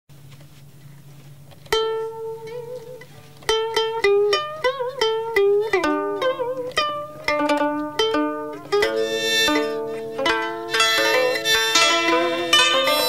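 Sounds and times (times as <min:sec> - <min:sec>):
plucked string instrument: 0:01.7 - 0:13.0.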